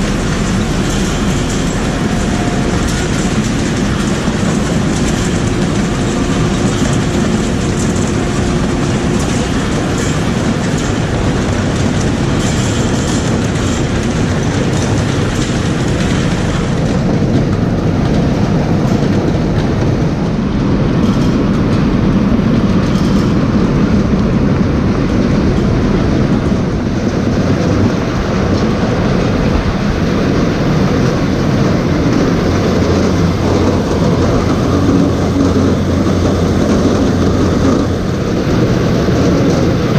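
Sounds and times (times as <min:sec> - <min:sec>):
heavy machinery rumbling: 0:00.0 - 0:39.9
rattling clatter: 0:00.0 - 0:39.9.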